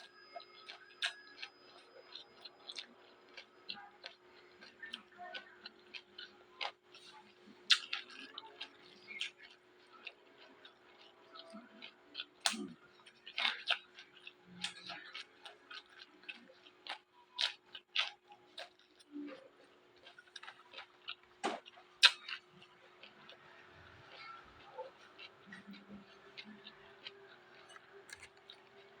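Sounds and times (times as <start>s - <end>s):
crunchy chewing of raw vegetables: 0.0s - 29.0s.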